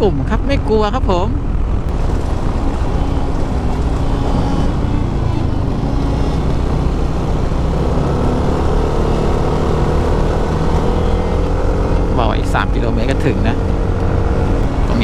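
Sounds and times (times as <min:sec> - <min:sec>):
scooter engine running: 0:00.0 - 0:15.0
wind on microphone: 0:00.0 - 0:15.0.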